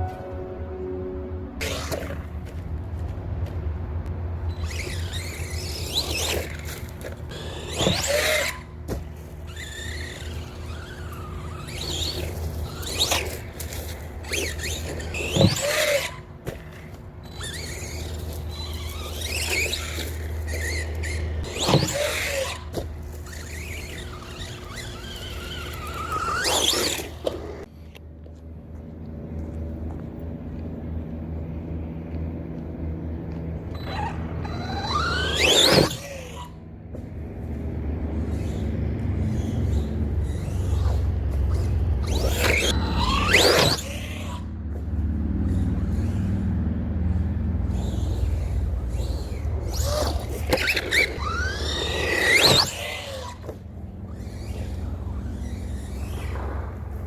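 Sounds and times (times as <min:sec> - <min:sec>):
steady low hum: 0:00.0 - 0:57.0
rc car motor whining: 0:01.6 - 0:02.6, 0:04.4 - 0:27.7, 0:33.6 - 0:57.0.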